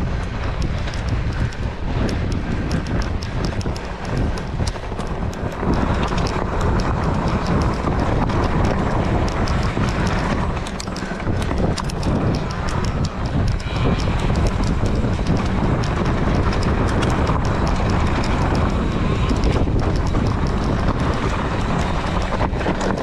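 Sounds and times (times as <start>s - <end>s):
small clicks and knocks: 0.0s - 23.0s
wind buffeting microphone: 0.0s - 23.0s.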